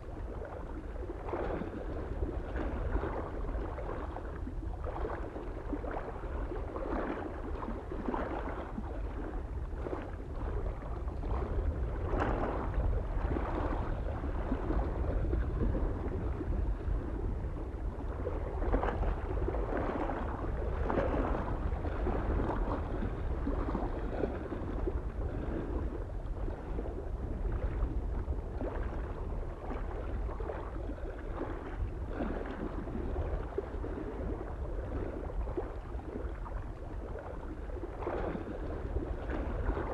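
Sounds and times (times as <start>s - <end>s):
small waves lapping on shore: 0.0s - 39.9s
soft wind rumble: 0.0s - 39.9s.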